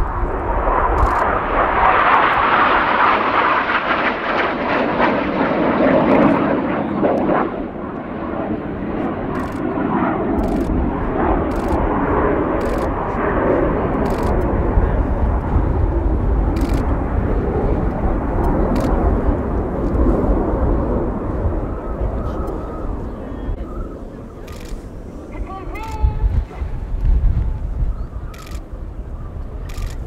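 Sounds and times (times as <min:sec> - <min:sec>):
jet aircraft roaring past: 0:00.0 - 0:30.0.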